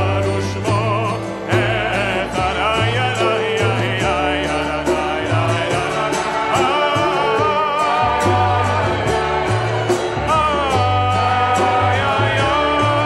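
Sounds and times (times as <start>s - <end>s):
acoustic guitar: 0.0s - 13.0s
group singing: 0.0s - 13.0s
hand drum beat: 0.0s - 13.0s
upright bass: 0.0s - 13.0s
violin: 0.0s - 13.0s.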